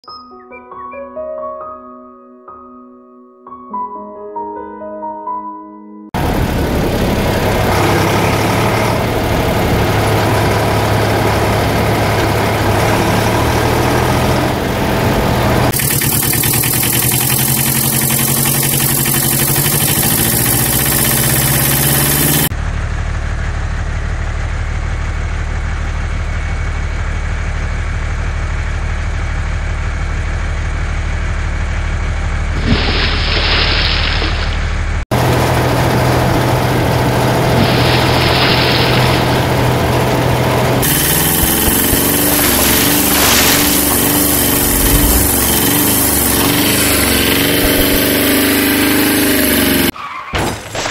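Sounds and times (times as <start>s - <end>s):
vehicle engine running: 6.2s - 50.0s.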